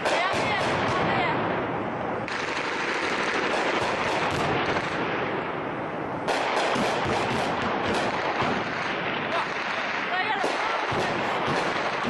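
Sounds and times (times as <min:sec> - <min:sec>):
machine-gun and rifle fire: 0:00.0 - 0:01.4, 0:02.2 - 0:05.4, 0:06.3 - 0:12.0.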